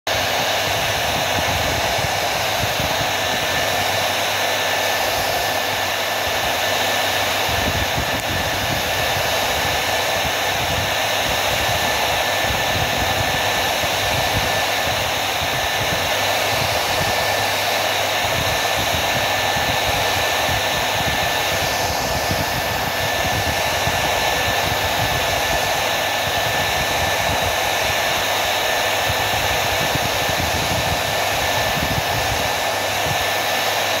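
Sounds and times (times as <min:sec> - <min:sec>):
hair dryer blowing air: 0:00.0 - 0:34.0.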